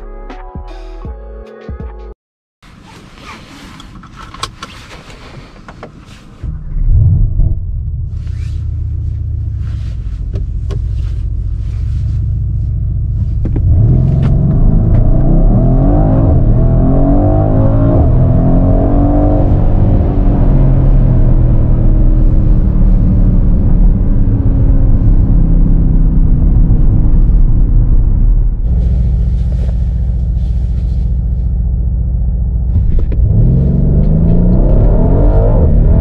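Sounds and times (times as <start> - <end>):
car engine rumbling and revving: 2.6 - 36.0.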